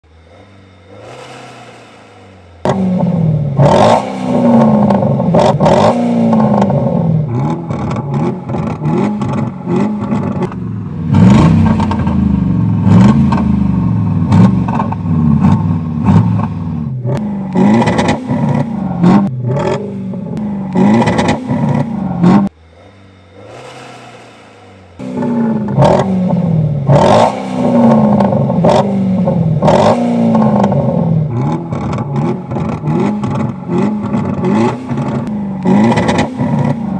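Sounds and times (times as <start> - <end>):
car engine revving: 0.0 - 36.9
exhaust popping and crackling: 0.3 - 36.9.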